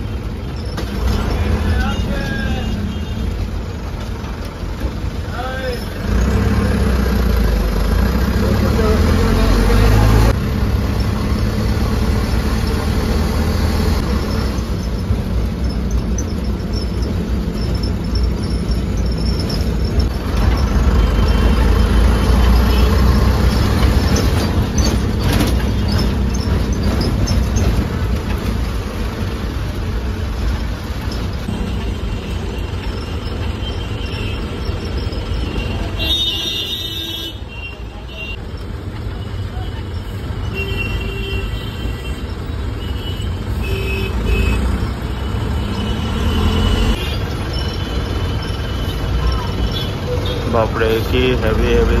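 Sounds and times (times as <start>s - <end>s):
bus engine rumble: 0.0s - 52.0s
road noise: 0.0s - 52.0s.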